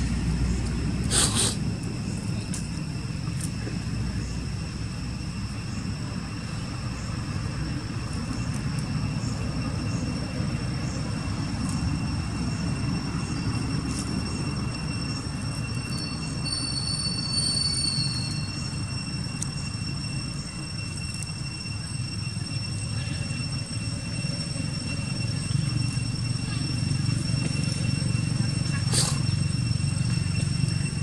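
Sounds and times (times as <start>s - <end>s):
steady low rumble: 0.0s - 16.5s, 18.0s - 31.0s.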